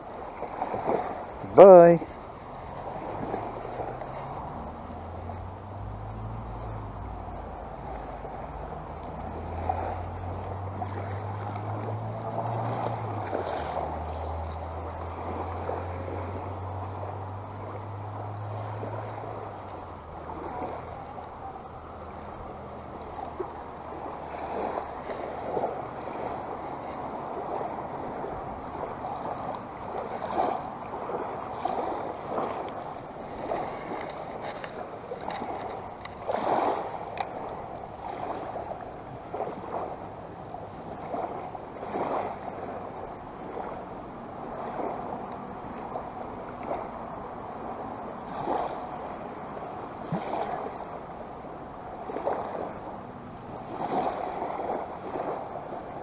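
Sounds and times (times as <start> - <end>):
small waves at shore: 0.0 - 56.0
wind: 0.0 - 56.0.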